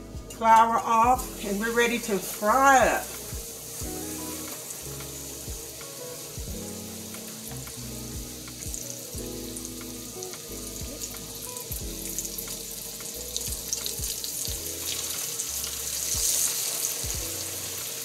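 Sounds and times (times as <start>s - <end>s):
background music: 0.0s - 18.0s
meat sizzling in oil: 0.4s - 18.0s.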